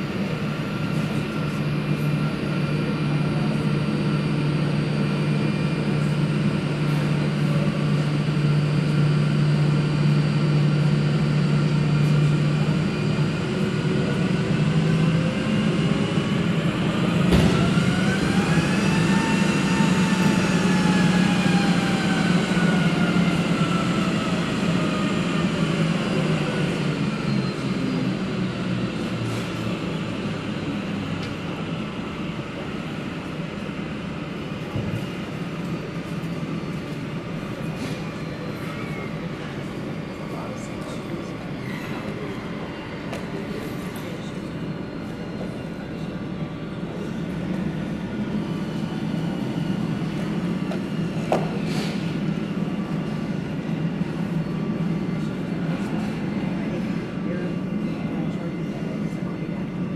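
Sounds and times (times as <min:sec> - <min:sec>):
jet engines humming and whining: 0:00.0 - 0:59.9.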